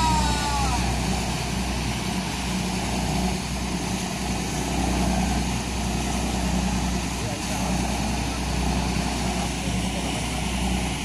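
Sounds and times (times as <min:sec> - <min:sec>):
boat engine running: 0:00.0 - 0:11.0
propeller churning water: 0:00.0 - 0:11.0.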